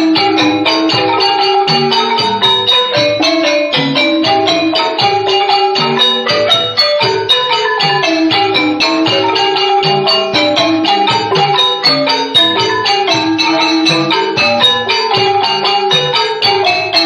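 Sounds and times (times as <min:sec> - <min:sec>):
xylophones and gong circles playing: 0:00.0 - 0:17.0.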